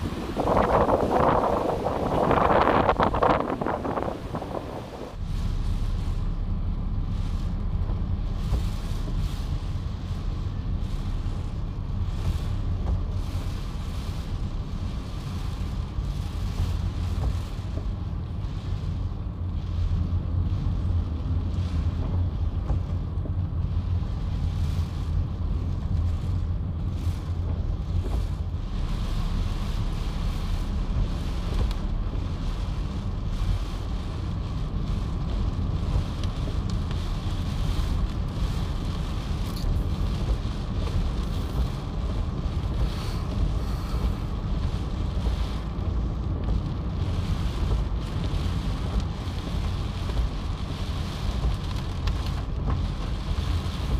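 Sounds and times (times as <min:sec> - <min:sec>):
heavy rain: 0:00.0 - 0:53.9
surf: 0:00.0 - 0:53.9
wind buffeting microphone: 0:00.0 - 0:53.9.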